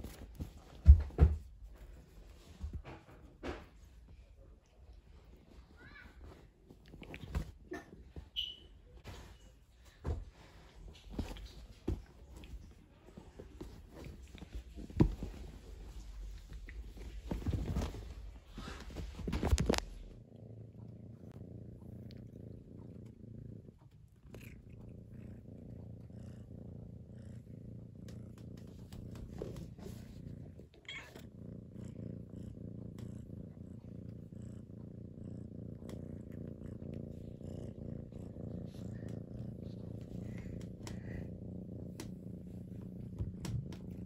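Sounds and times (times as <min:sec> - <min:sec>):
cat purring: 0:00.0 - 0:44.0.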